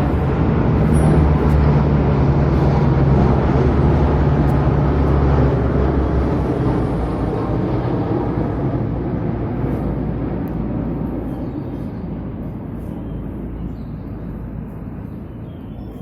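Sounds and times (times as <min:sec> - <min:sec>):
military aircraft flying overhead: 0:00.0 - 0:16.0.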